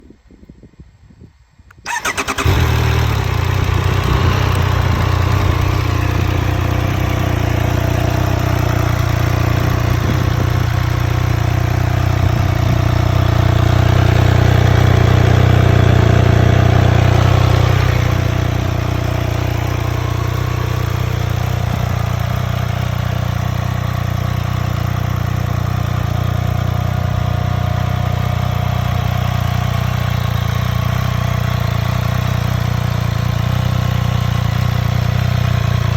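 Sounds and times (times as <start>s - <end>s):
motorcycle engine idling: 1.8s - 35.9s.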